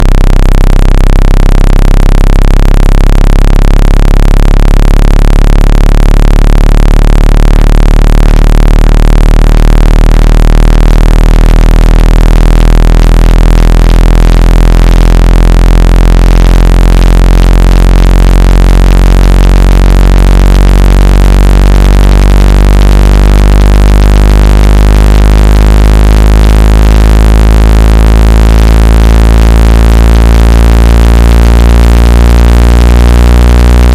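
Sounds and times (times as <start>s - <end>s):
low buzzy electronic hum: 0.0s - 33.9s.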